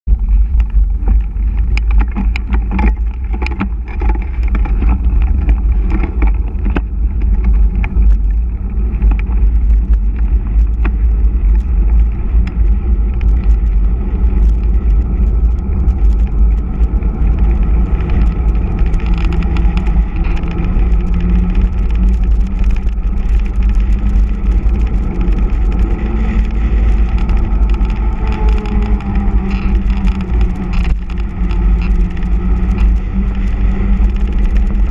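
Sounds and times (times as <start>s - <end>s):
wind buffeting microphone: 0.0s - 34.9s
tyres rushing on asphalt: 3.0s - 34.9s.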